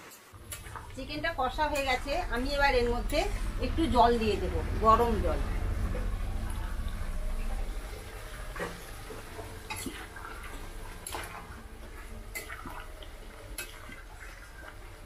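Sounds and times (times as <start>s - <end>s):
liquid sloshing: 0.3s - 15.0s.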